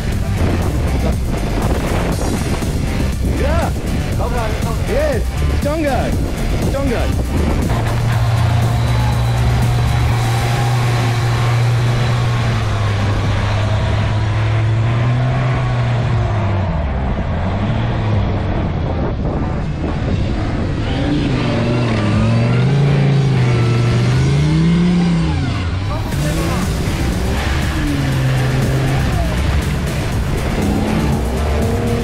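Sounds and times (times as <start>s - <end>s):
off-road engine revving: 0.0s - 32.0s.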